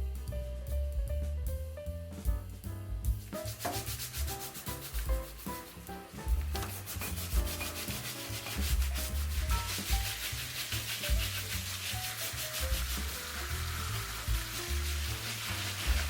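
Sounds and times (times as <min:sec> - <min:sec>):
instrumental background music: 0:00.0 - 0:16.0
rhythmic rubbing: 0:02.3 - 0:16.0.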